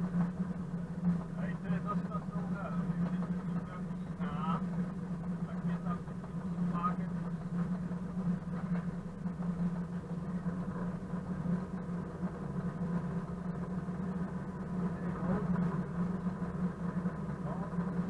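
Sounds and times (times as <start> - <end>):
locomotive diesel engine running: 0.0 - 18.0.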